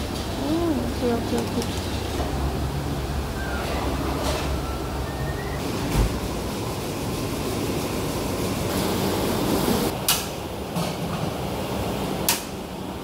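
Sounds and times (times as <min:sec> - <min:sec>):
rumbling background noise: 0:00.0 - 0:13.0.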